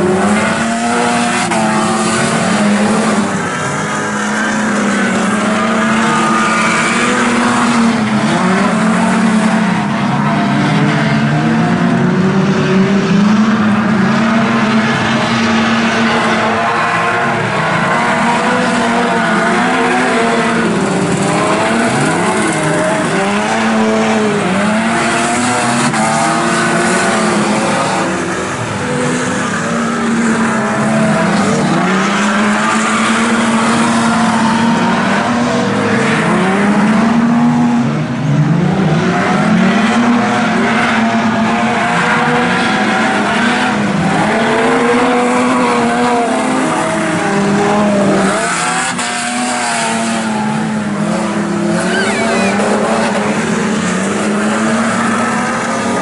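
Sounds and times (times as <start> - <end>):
racing car engines revving: 0.0 - 56.0.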